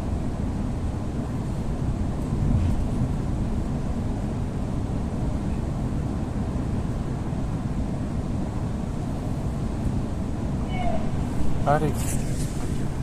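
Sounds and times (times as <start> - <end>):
train carriage low rumble: 0.0 - 13.0.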